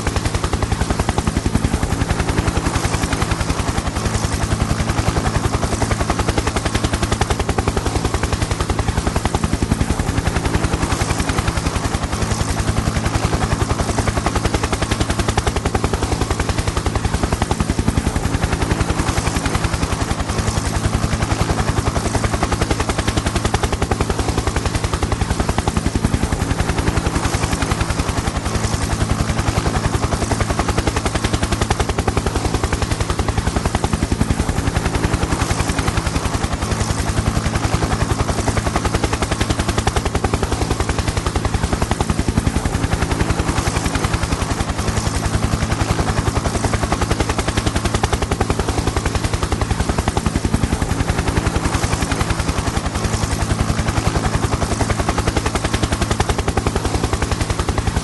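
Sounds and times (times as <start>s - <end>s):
helicopter rotor blades chopping: 0.0s - 58.0s.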